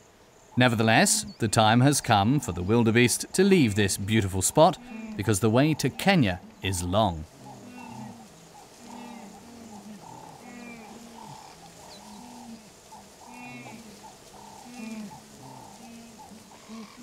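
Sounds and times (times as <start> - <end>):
wildebeest herd calling: 0.6 - 17.0.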